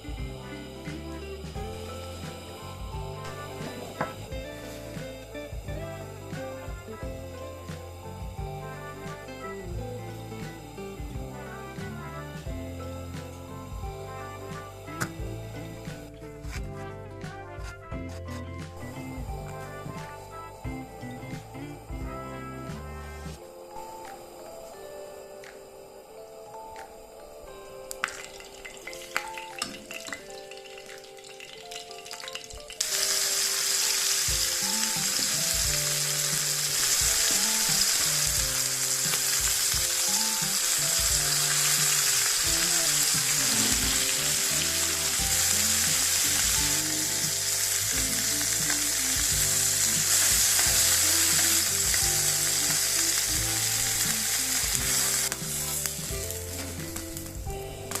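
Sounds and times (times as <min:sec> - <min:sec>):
food sizzling in hot oil: 0:00.0 - 0:16.6, 0:27.4 - 0:58.0
background music: 0:00.0 - 0:58.0.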